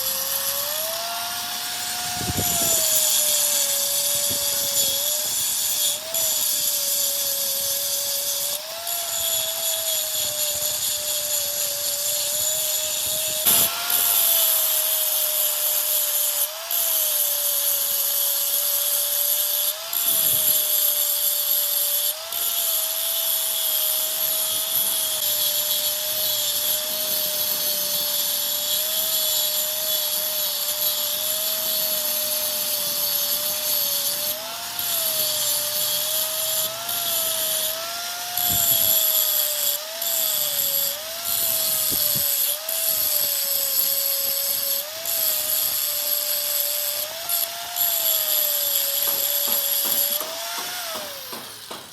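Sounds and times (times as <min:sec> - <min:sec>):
metalworking power tool whining: 0:00.0 - 0:51.9.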